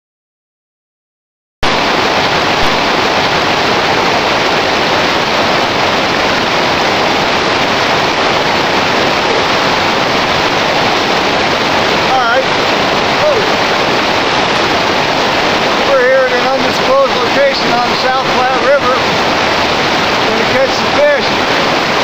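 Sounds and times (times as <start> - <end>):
river rapids rushing: 1.6 - 22.0.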